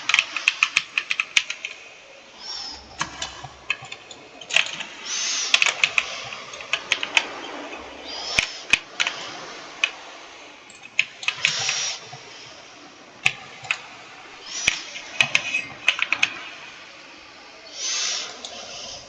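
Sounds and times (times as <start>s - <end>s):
keyboard typing: 0.0s - 10.0s, 10.7s - 17.0s
noisy swishes: 0.0s - 19.0s.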